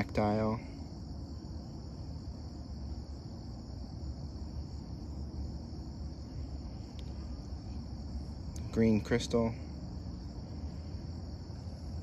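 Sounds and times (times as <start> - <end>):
insects chirring: 0.0 - 12.0
low rumble: 0.0 - 12.0.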